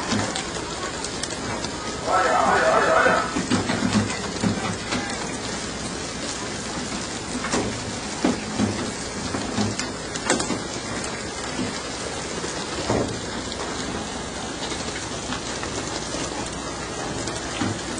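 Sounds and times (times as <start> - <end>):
water spray splashing on boat: 0.0 - 17.9.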